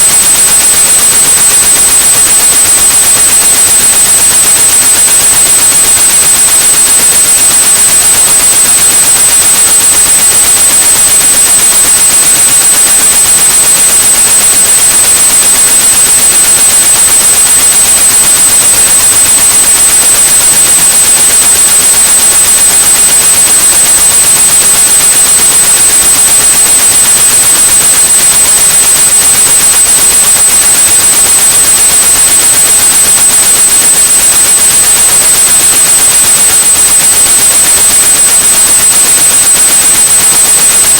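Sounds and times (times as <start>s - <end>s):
constant high-pitched tone: 0.0s - 38.4s.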